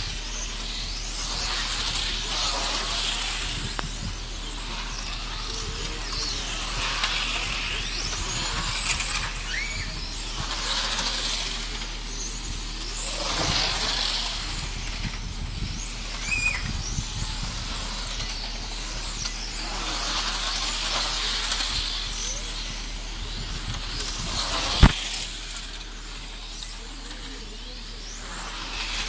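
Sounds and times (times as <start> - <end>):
toy racing car motor whine: 0.0 - 29.0.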